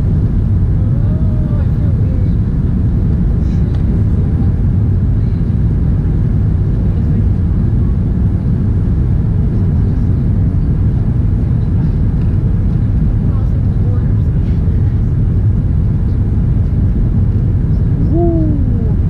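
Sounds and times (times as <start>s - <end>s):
airflow along fuselage: 0.0s - 19.0s
jet engines low rumble: 0.0s - 19.0s.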